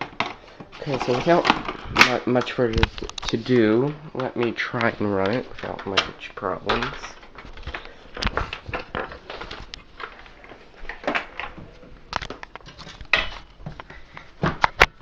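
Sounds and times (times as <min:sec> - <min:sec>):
handling clicks and knocks: 0:00.0 - 0:15.0.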